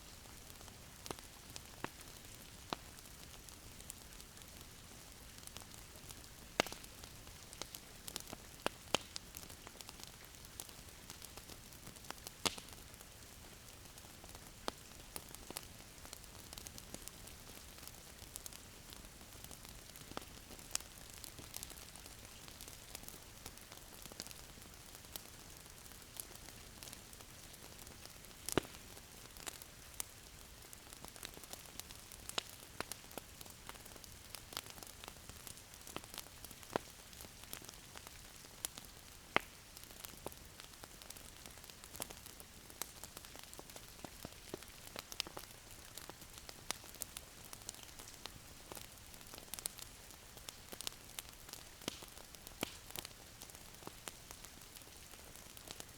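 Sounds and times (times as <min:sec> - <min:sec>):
wood fire crackling and popping: 0:00.1 - 0:55.9.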